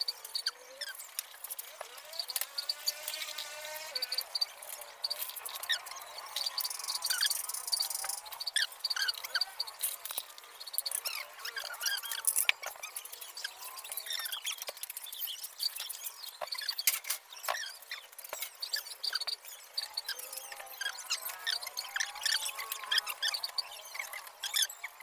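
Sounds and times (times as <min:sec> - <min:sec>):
high squeaks and chirps: 0:00.0 - 0:25.0.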